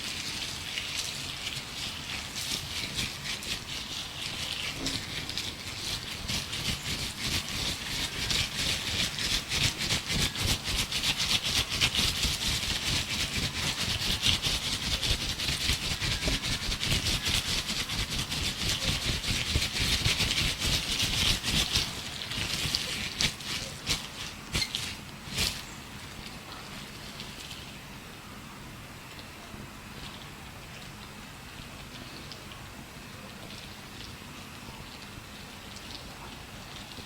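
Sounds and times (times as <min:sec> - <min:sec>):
gloved hands rubbing and crinkling: 0:00.0 - 0:28.2, 0:29.0 - 0:37.0.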